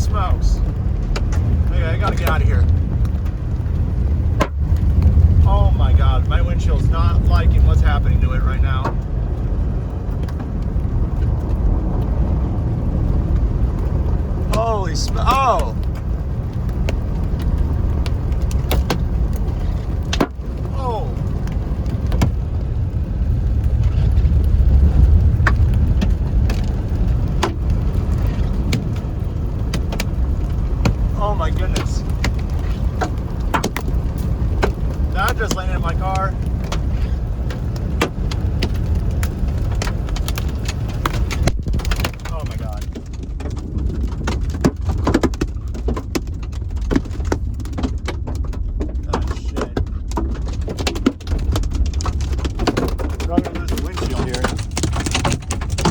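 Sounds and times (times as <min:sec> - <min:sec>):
hailstones hitting a car: 0:00.0 - 0:55.9
low rumble of car moving: 0:00.0 - 0:55.9.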